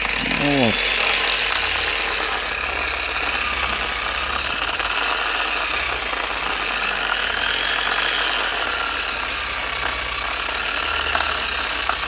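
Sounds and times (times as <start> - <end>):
angle grinder whine: 0.0 - 12.0.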